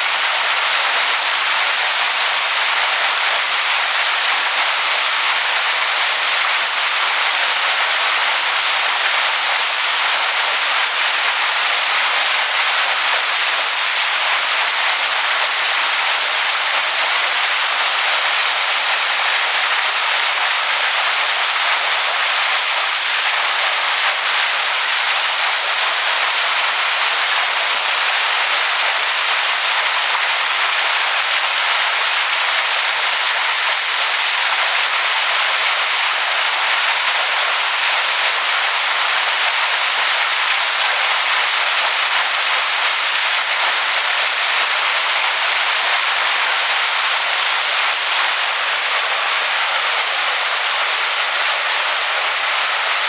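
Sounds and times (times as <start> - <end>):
waterfall splashing onto rocks: 0.0 - 53.0.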